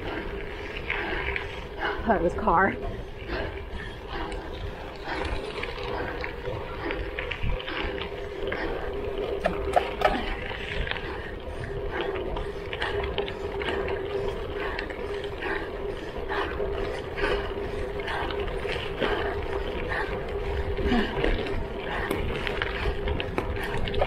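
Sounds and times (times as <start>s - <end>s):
bike clicks and rattles: 0.0s - 2.0s, 2.8s - 24.0s
steady hum: 0.0s - 24.0s.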